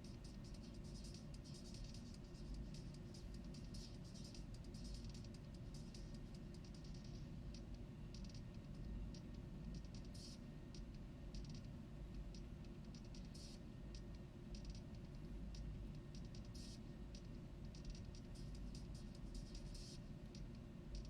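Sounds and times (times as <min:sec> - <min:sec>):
faint irregular clicking: 0:00.0 - 0:21.0
steady low hum: 0:00.0 - 0:21.0.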